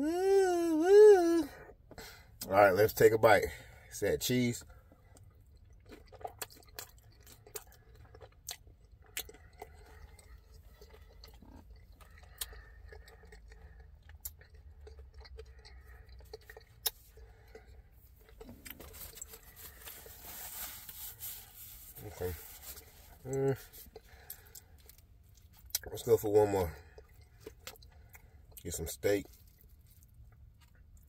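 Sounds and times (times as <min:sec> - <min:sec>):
person chewing food: 0:04.6 - 0:28.7, 0:29.3 - 0:31.0.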